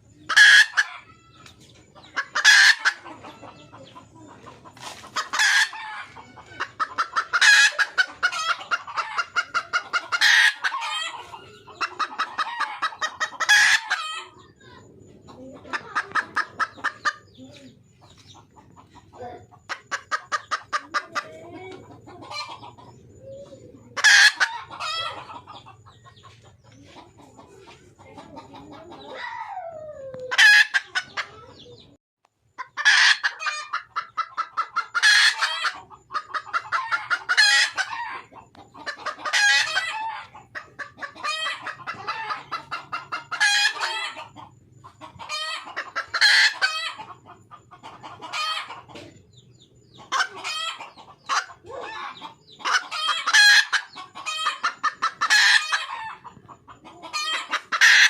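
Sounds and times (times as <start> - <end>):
hen cackling calls: 0.3 - 26.2, 27.0 - 31.8, 32.6 - 58.0.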